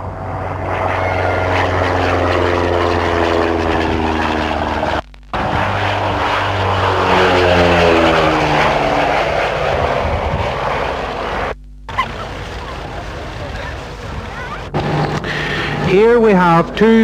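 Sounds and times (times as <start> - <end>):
propeller aircraft passing by: 0.0 - 17.0.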